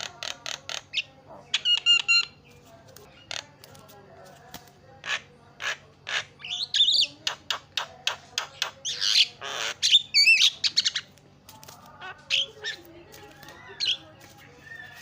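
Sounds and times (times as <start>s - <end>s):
myna chattering song: 0.0s - 15.0s.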